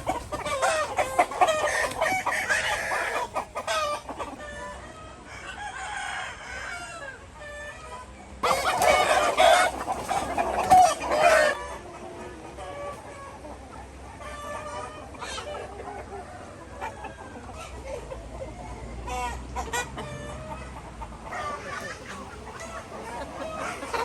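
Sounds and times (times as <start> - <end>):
chickens squawking and clucking: 0.0 - 24.0.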